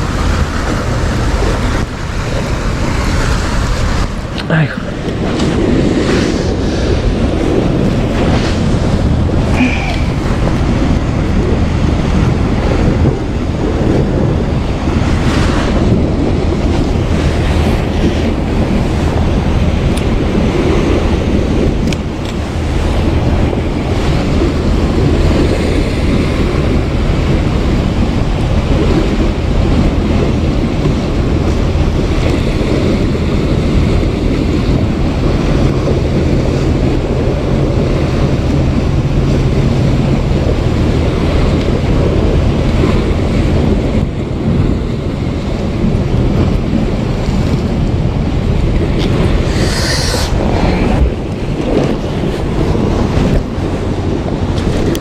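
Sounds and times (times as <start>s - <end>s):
sea waves: 0.0s - 55.0s
wind buffeting microphone: 0.0s - 55.0s.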